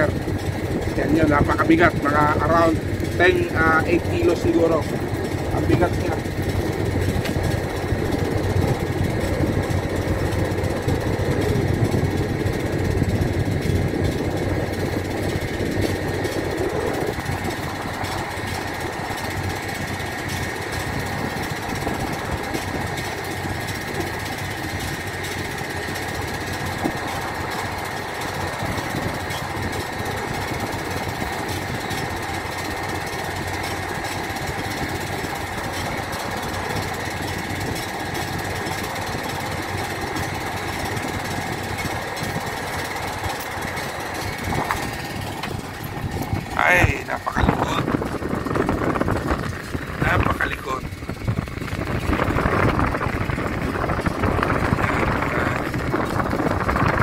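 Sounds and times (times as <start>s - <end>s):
machinery drone with high whine: 0.0s - 57.0s.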